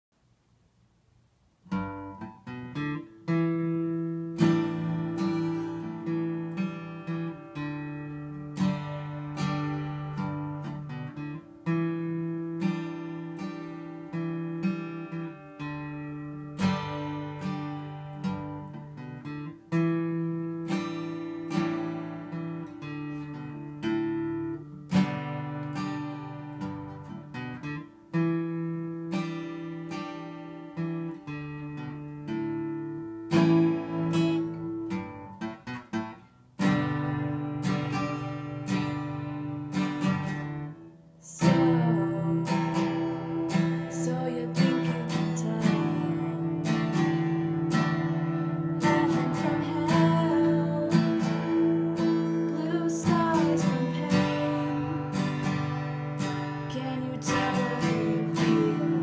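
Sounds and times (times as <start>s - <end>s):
acoustic guitar strumming chords: 1.7s - 59.0s.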